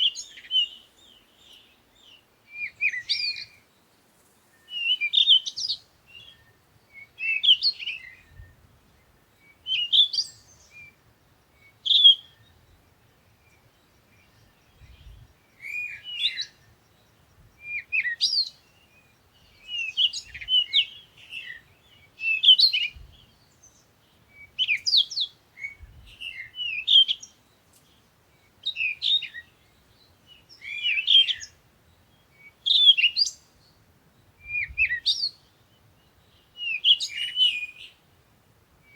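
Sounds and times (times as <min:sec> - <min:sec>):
bird chirping: 0:00.0 - 0:38.2.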